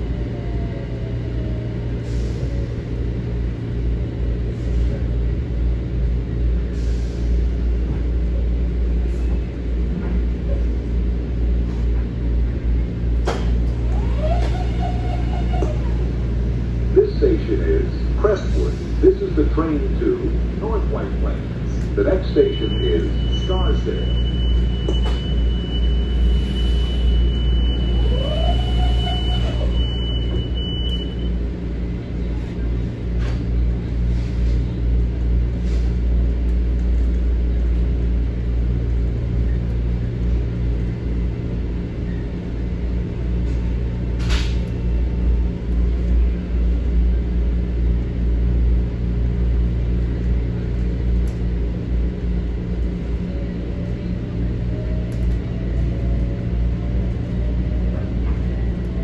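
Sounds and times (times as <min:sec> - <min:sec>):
train rumbling inside passenger car: 0:00.0 - 0:59.0.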